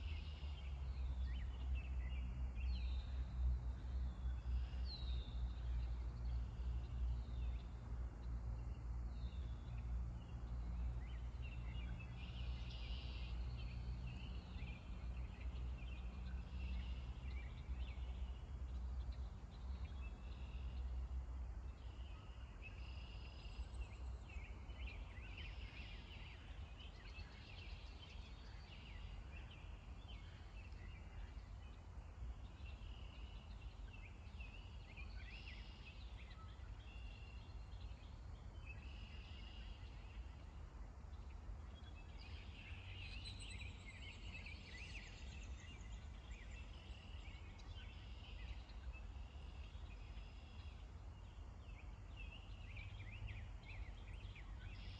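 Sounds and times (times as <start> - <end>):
faint low rumble: 0.0 - 54.9
small birds chirping: 0.0 - 54.9.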